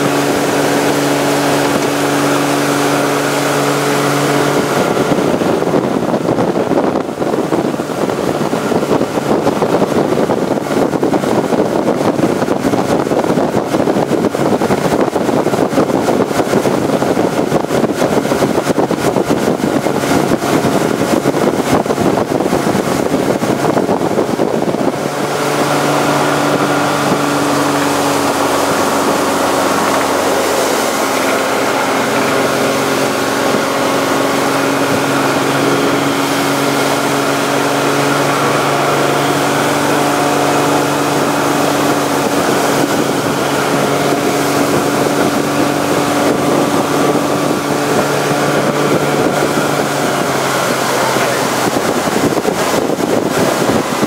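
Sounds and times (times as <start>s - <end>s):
motorboat engine: 0.0s - 54.0s
water rushing: 0.0s - 54.0s
wind buffeting microphone: 0.0s - 54.0s.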